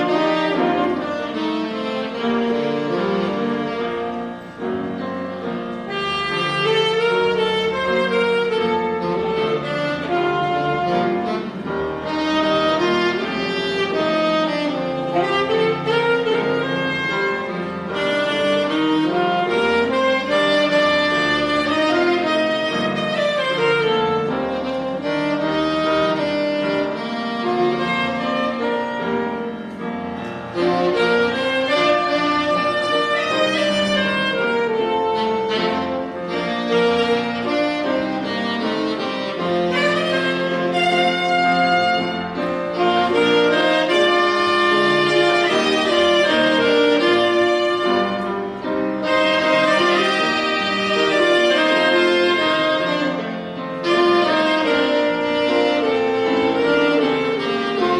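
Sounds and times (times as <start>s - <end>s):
instrumental ensemble music: 0.0s - 57.9s.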